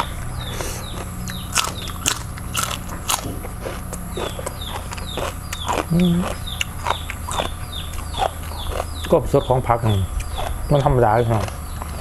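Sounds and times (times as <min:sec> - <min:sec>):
person chewing crunchy food: 0:00.0 - 0:09.2, 0:09.8 - 0:12.0.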